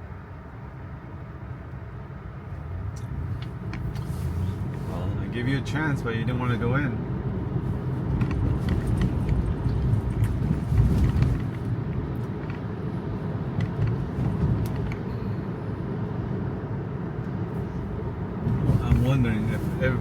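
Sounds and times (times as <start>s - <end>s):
road and tyre noise in car cabin: 0.0s - 20.0s.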